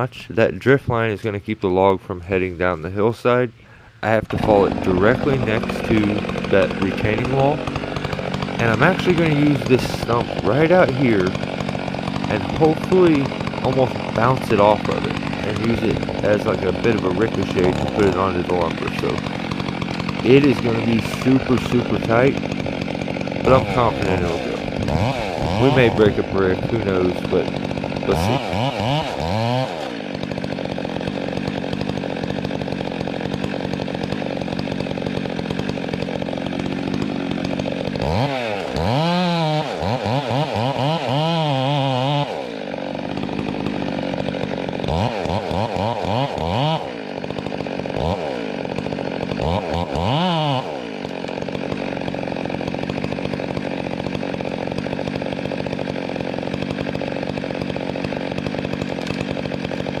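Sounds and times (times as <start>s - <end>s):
chainsaw cutting log: 0.0s - 60.0s.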